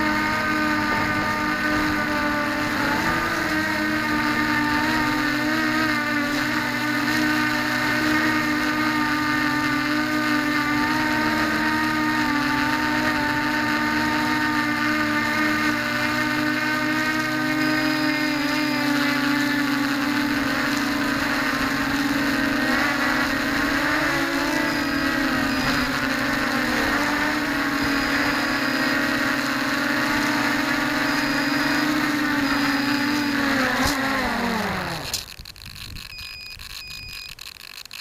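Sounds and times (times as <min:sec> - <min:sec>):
quadcopter propellers buzzing: 0:00.0 - 0:38.0.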